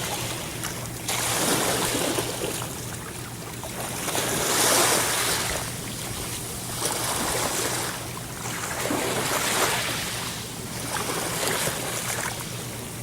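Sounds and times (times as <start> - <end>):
waves washing in: 0.0 - 13.0.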